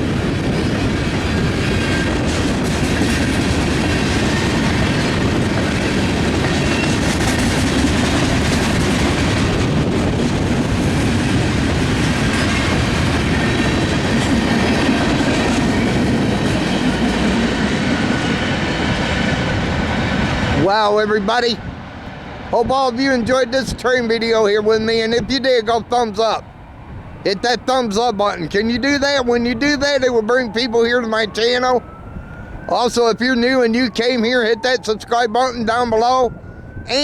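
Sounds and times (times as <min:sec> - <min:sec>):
train wheels rumbling on rails: 0:00.0 - 0:30.2.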